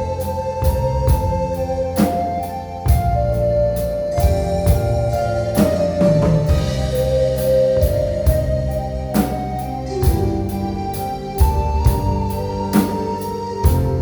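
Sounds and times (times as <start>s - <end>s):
drum kit beat: 0.0s - 14.0s
keyboard chords: 0.0s - 14.0s
sustained melody line: 0.0s - 14.0s.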